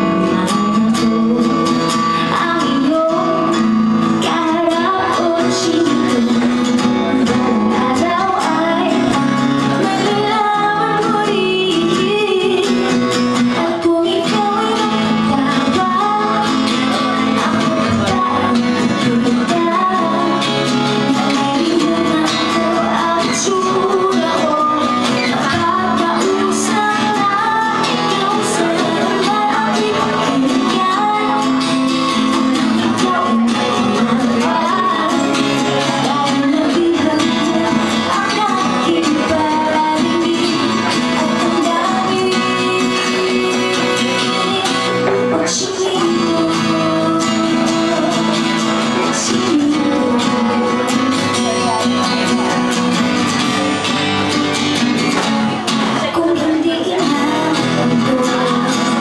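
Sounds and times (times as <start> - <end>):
acoustic guitars: 0.0 - 59.0
woman singing a pop song: 0.0 - 59.0.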